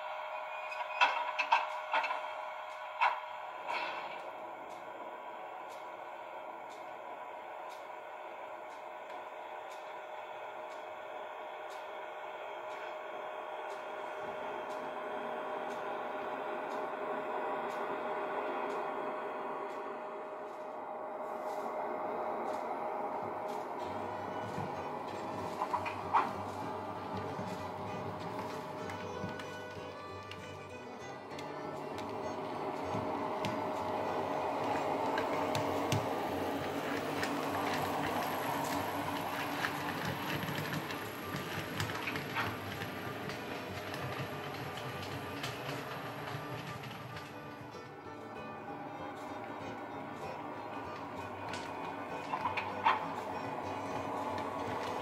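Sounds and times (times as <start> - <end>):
electric railcar hum: 0.0 - 55.0.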